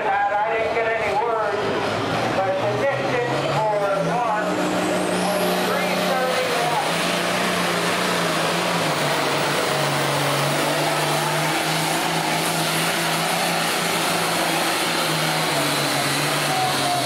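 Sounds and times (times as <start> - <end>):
diesel tractor engine at full throttle: 0.0 - 17.0.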